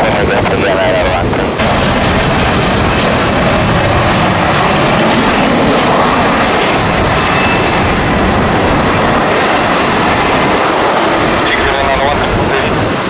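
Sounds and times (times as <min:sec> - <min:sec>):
high turbofan whine: 0:00.0 - 0:13.0
jet engines running: 0:00.0 - 0:13.0.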